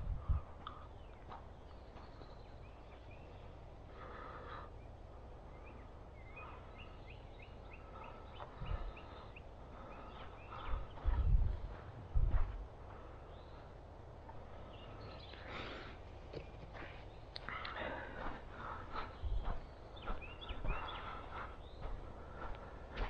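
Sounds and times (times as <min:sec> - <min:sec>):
bird calls: 0:00.0 - 0:23.0.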